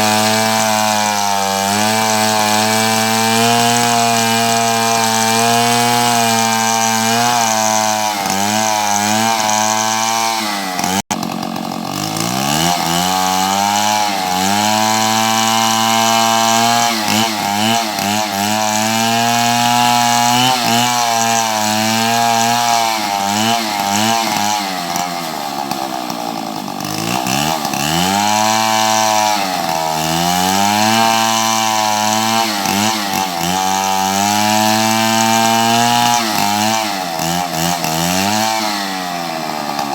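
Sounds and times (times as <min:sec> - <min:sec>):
chainsaw cutting at high revs: 0:00.0 - 0:39.9.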